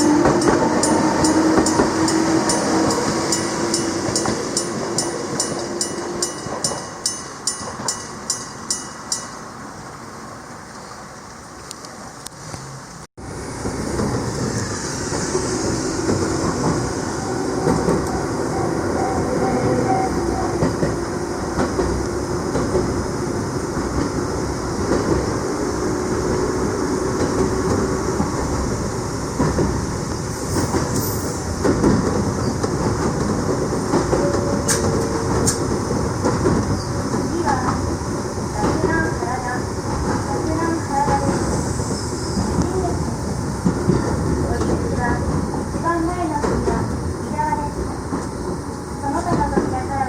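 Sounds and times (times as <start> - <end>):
train wheels rumbling on rails: 0.0 - 9.9, 11.6 - 50.0.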